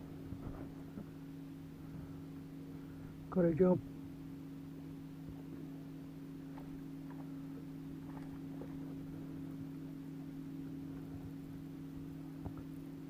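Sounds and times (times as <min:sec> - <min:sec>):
steady low two-pitch hum: 0:00.0 - 0:13.0.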